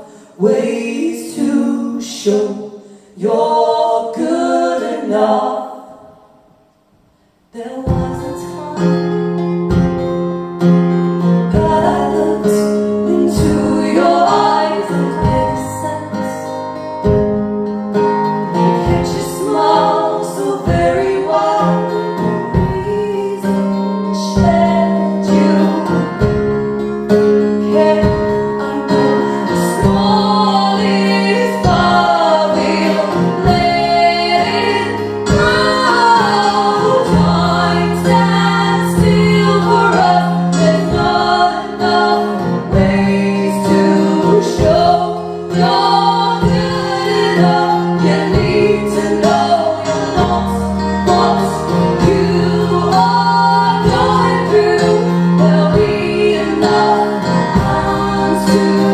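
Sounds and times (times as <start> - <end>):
women singing: 0.0 - 6.4, 7.6 - 9.5, 11.5 - 16.8, 18.4 - 58.9
acoustic guitar strumming: 7.9 - 58.9.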